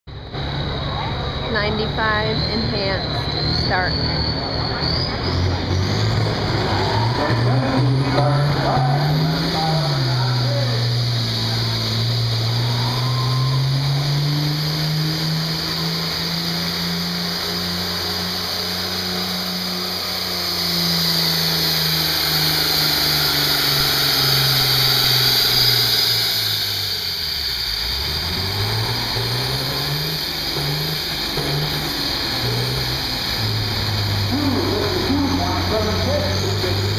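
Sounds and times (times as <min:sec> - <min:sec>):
diesel tractor engine under load: 0:00.1 - 0:36.9.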